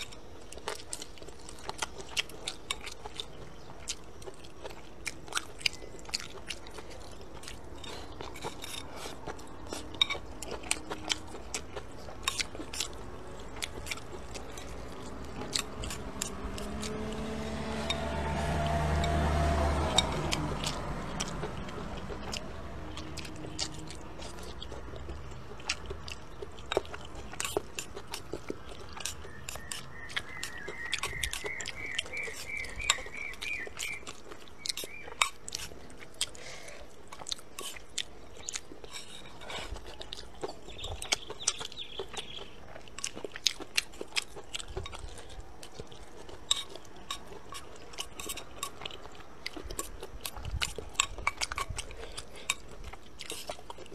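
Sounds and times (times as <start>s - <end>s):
person chewing: 0.0s - 53.9s.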